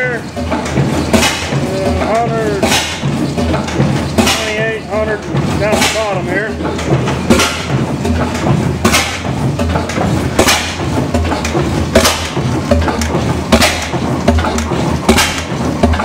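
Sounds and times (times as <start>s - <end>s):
old engine running slowly: 0.0s - 16.0s.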